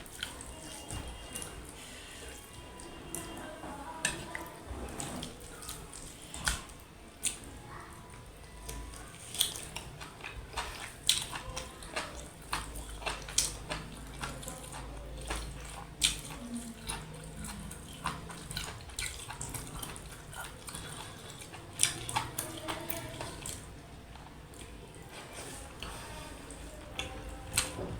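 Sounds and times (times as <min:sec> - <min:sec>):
wet chewing sounds: 0:00.0 - 0:27.9.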